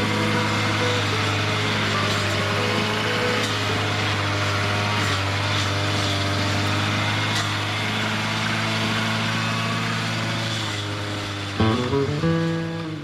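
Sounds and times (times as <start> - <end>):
acoustic guitar music: 0.0 - 13.0
brush cutter engine running: 0.0 - 13.0.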